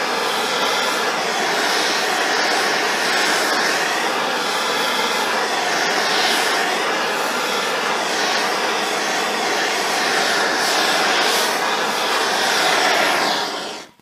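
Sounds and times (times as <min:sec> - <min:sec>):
blowtorch flame hissing: 0:00.0 - 0:14.0.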